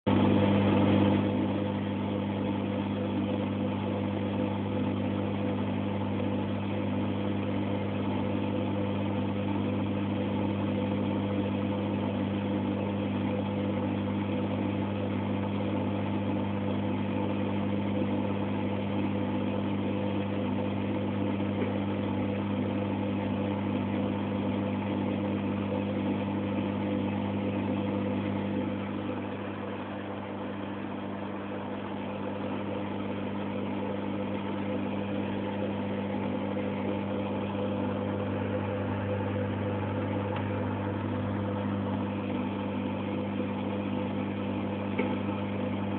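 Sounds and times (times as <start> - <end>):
microwave oven humming: 0.1 - 45.9.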